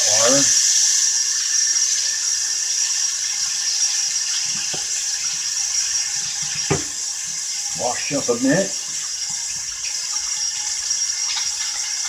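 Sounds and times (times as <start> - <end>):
faucet running water: 0.0 - 12.0.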